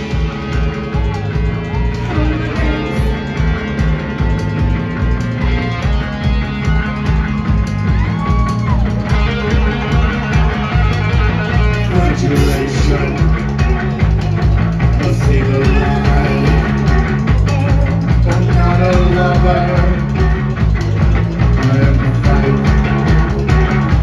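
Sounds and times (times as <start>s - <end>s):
driving drum beat: 0.0s - 24.0s
electric guitars: 0.0s - 24.0s.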